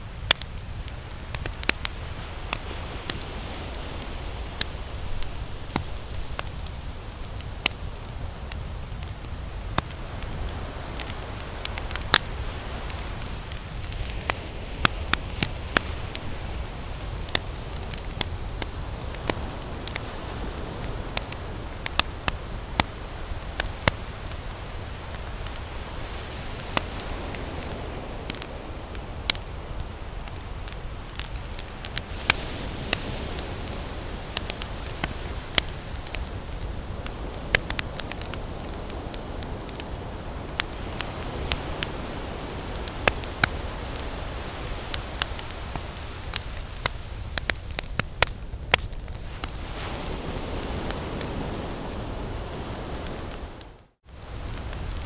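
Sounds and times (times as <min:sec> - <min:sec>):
campfire crackling and popping: 0:00.0 - 0:55.0
surf washing: 0:00.0 - 0:55.0.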